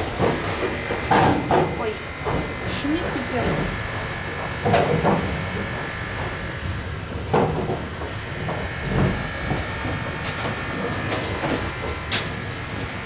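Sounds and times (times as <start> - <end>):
electric train rumble and hiss: 0.0 - 13.0
sharp clicks and knocks: 0.0 - 13.0.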